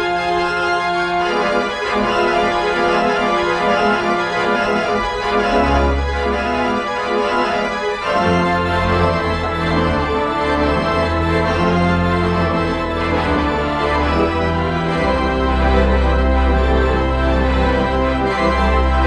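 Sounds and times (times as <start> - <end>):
sustained organ chords: 0.0 - 19.0.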